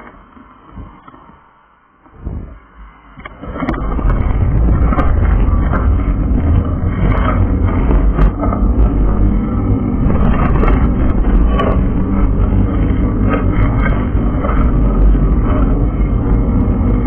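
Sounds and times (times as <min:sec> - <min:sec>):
wind rumbling on camera: 0:00.0 - 0:17.0
deep steady rumble: 0:02.0 - 0:17.0.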